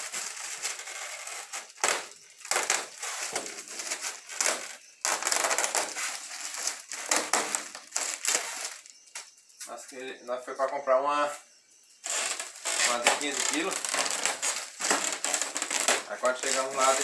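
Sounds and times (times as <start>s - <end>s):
plastic wrap crinkling: 0.0s - 9.3s, 12.0s - 17.0s
plastic wrap tearing: 0.0s - 9.3s, 12.0s - 17.0s.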